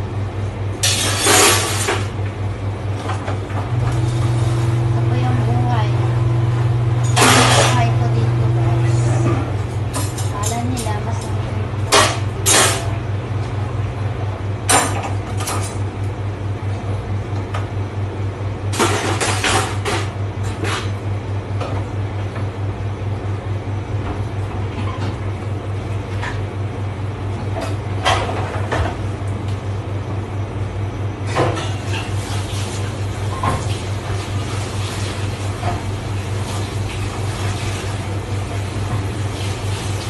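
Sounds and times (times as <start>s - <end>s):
kitchen machinery humming: 0.0s - 40.0s.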